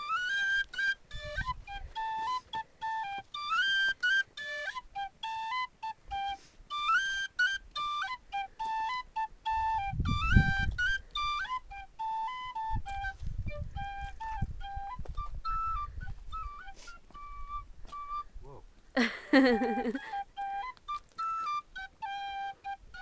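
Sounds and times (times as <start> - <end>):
tin whistle playing lively tune: 0.0 - 18.3, 19.3 - 23.0.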